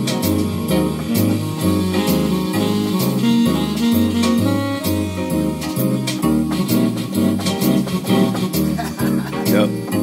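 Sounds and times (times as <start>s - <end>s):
upbeat jazzy keyboard tune: 0.0s - 10.0s.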